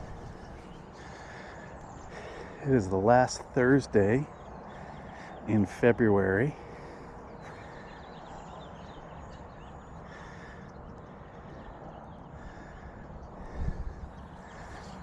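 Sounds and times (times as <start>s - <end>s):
birds calling: 0.0s - 15.0s
steady outdoor hiss: 0.0s - 15.0s.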